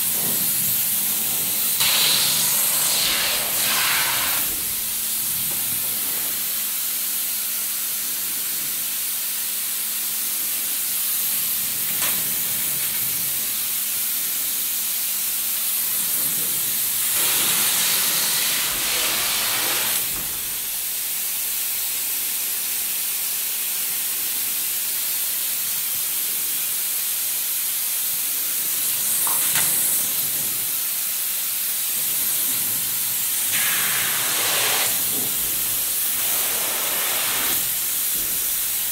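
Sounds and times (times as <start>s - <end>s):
spray foam gun hissing: 0.2s - 22.1s, 24.8s - 38.9s.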